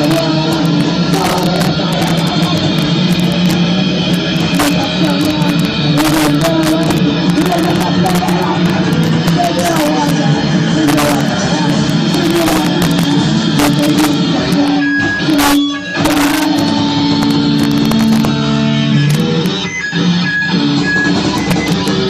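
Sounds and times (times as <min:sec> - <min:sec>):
live band playing distorted rock: 0:00.0 - 0:22.0.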